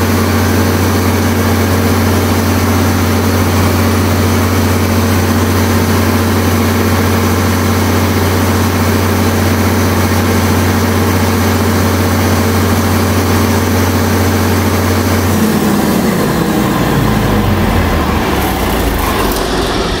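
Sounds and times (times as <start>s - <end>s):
diesel generator running: 0.0s - 20.0s.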